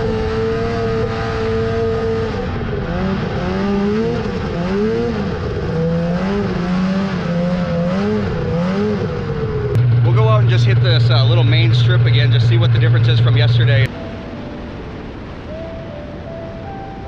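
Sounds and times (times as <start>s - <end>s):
snowmobile engine revving: 0.0s - 13.9s.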